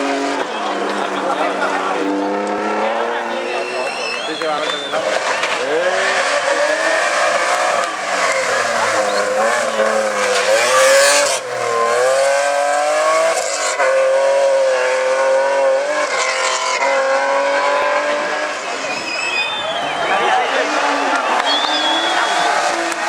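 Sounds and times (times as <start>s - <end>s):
rally car engine at full throttle: 0.0s - 23.0s.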